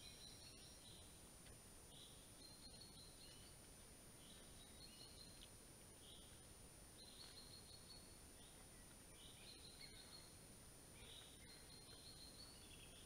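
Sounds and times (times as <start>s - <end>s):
distant birds chirping: 0.0s - 13.0s
steady hiss: 0.0s - 13.0s.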